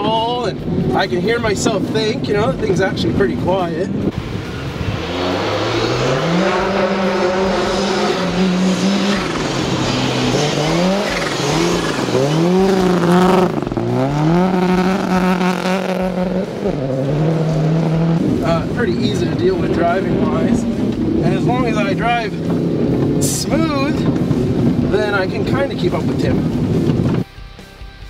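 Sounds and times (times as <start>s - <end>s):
rally car engines revving: 0.0s - 27.2s.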